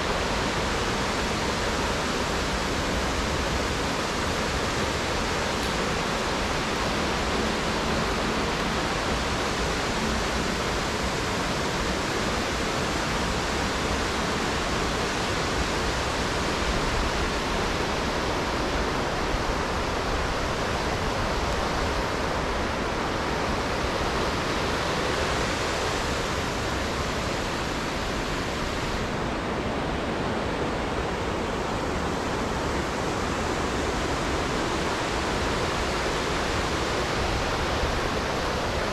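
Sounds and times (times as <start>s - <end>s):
creek and waterfall rushing: 0.0s - 38.9s.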